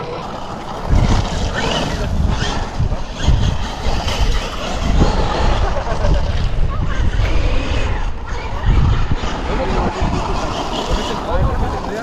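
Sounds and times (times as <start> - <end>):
wind buffeting microphone: 0.0 - 12.0
toy car electric motor whine: 0.2 - 12.0.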